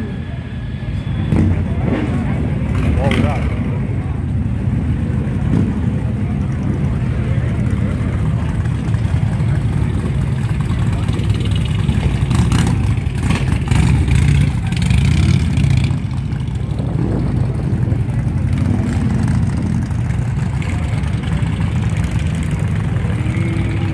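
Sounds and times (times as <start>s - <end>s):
motorcycle engines rumbling: 0.0s - 23.9s.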